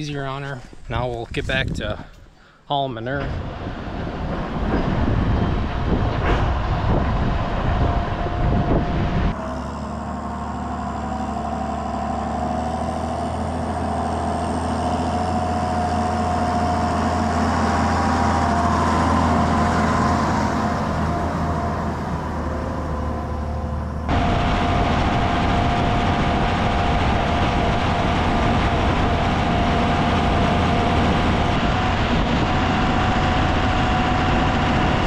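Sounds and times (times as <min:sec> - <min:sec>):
tractor engine drone with whine: 0:00.0 - 0:35.0.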